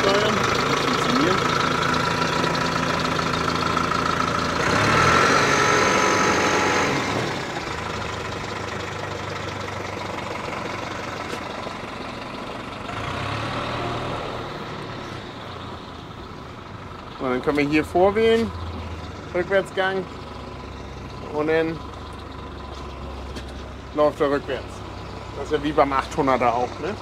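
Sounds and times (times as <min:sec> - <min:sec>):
tractor diesel engine: 0:00.0 - 0:27.0.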